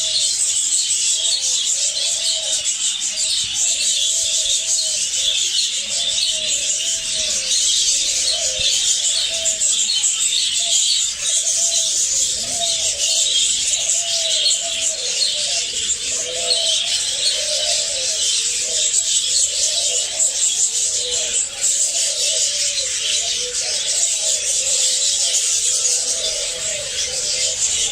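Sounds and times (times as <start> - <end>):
low cooing calls: 0.0 - 27.9
parrots chattering: 0.0 - 27.9.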